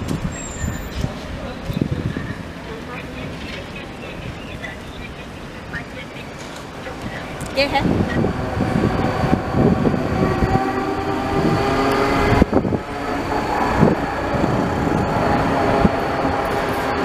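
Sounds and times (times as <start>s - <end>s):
tram wheels rumbling on rails: 0.0s - 17.0s
tram whine: 0.0s - 17.0s.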